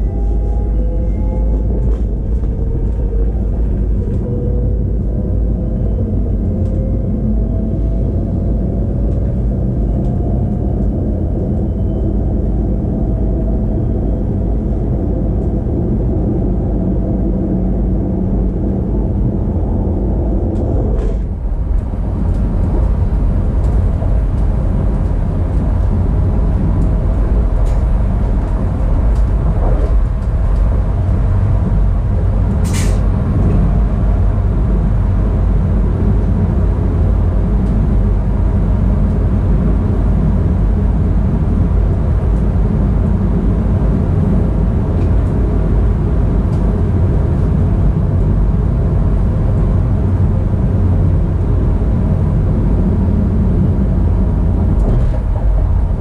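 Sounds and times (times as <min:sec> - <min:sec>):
train rumbling along tracks: 0:00.0 - 0:56.0.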